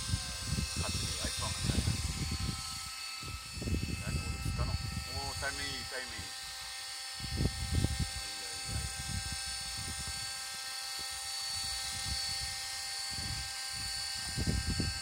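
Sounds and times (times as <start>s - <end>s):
wind buffeting microphone: 0.0s - 6.3s, 7.2s - 15.0s
model helicopter whine: 0.0s - 15.0s.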